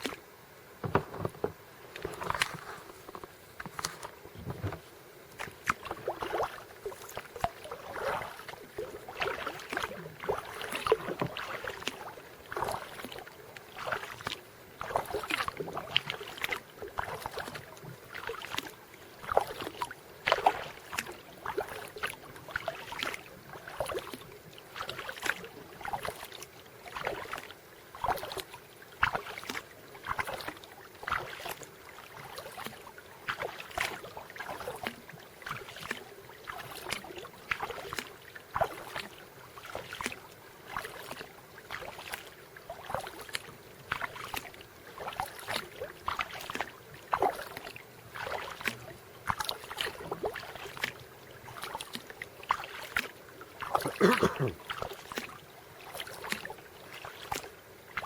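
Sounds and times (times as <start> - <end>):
kayak paddle splashing: 0.0 - 58.0.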